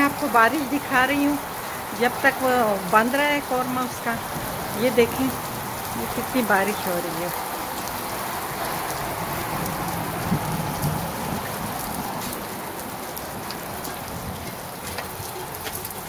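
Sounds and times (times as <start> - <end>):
heavy rain hissing: 0.0 - 16.0
raindrops clicking: 0.0 - 16.0.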